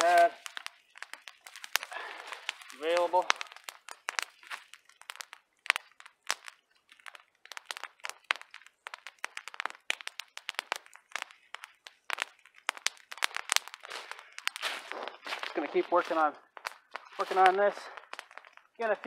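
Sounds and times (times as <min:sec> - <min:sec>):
twigs snapping: 0:00.0 - 0:18.9.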